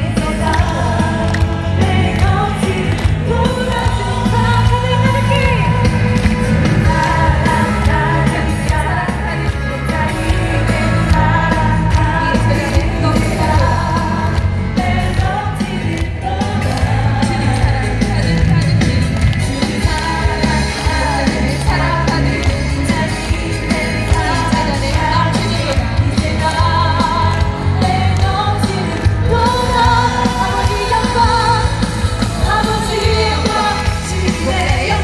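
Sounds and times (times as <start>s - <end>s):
woman singing with full band: 0.0s - 35.0s.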